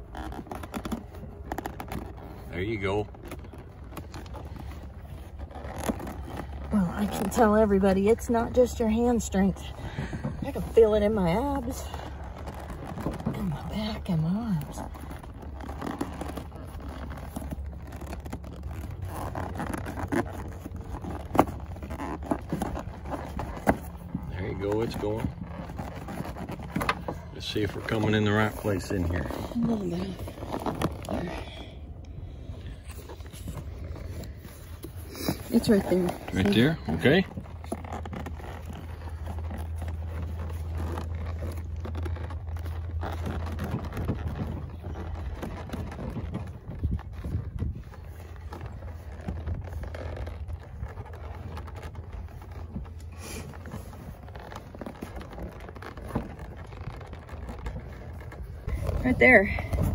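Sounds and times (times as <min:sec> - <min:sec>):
leather and fleece rubbing: 0:00.0 - 0:59.9.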